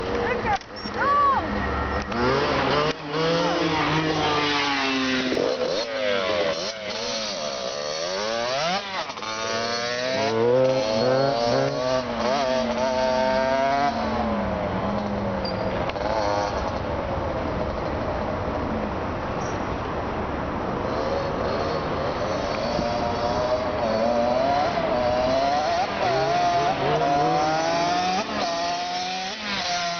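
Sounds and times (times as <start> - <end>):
two-stroke dirt bike engine: 1.6 - 18.0, 20.8 - 29.9.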